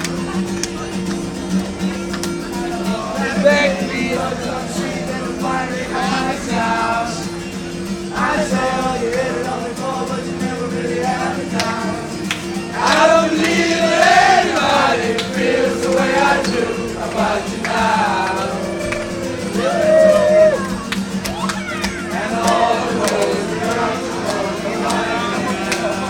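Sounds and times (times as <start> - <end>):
held chords: 0.0 - 26.0
voices singing together: 0.0 - 26.0.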